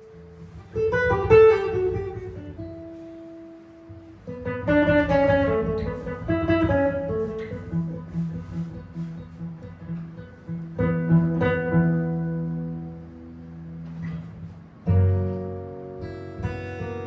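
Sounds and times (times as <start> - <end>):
jazz guitar improvising: 0.0 - 17.0.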